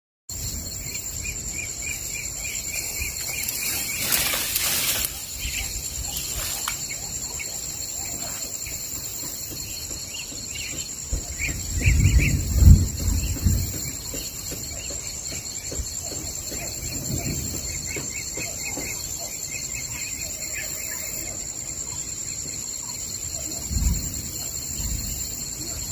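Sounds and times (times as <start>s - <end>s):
birdsong chirps: 0.3s - 25.9s
high-pitched insect drone: 0.3s - 25.9s.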